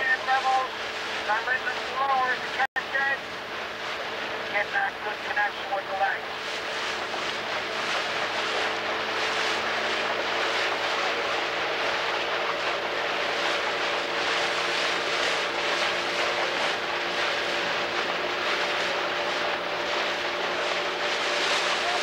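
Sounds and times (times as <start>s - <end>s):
outboard motor running: 0.0s - 22.0s
wind and water hiss: 0.0s - 22.0s.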